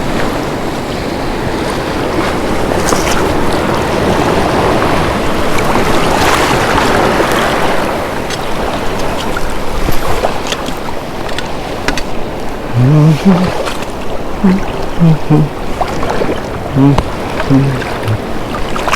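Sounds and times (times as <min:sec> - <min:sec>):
ocean waves breaking on shore: 0:00.0 - 0:18.9.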